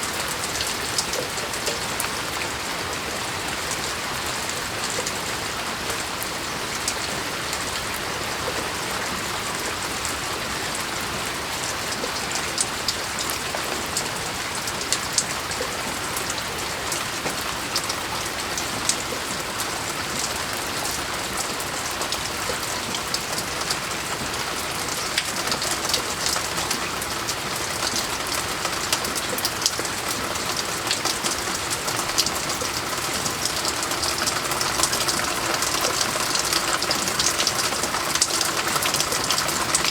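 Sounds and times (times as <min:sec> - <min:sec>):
moderate rain falling: 0:00.0 - 0:39.9.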